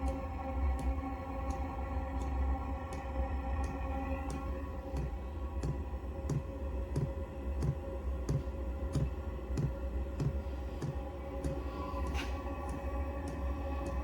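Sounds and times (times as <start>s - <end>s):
blower fan hum: 0.0s - 14.0s.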